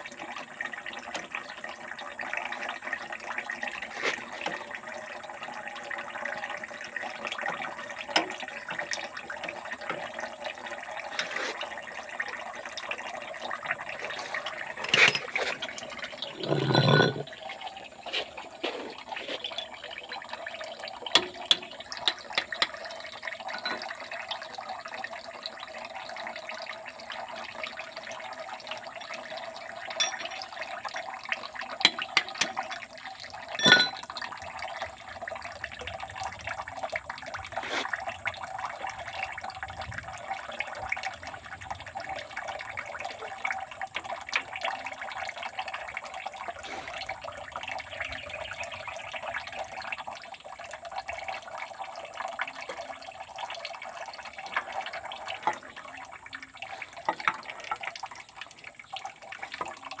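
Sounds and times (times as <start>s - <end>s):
oil pouring into a bucket: 0.0s - 60.0s.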